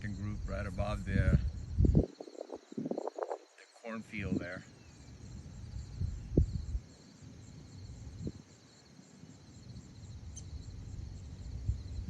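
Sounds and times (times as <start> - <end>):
field insects chirring: 0.0 - 12.0.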